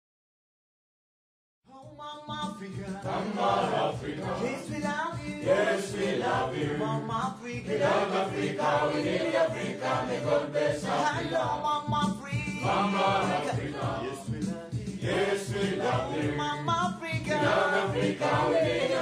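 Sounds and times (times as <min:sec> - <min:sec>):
background music with singing: 0:01.7 - 0:19.0.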